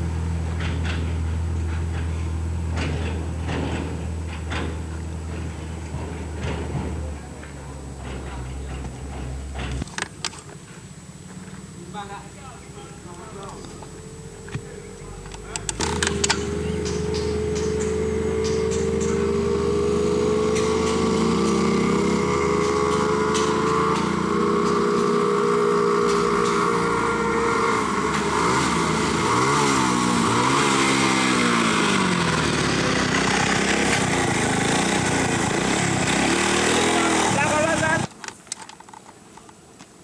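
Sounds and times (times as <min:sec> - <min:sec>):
engine running: 0:00.0 - 0:38.2.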